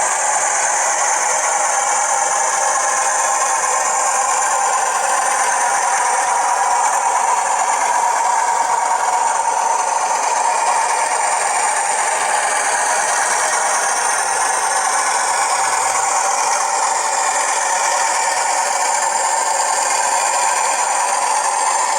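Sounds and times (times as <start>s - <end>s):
diesel engine sound from small speaker: 0.0s - 21.9s.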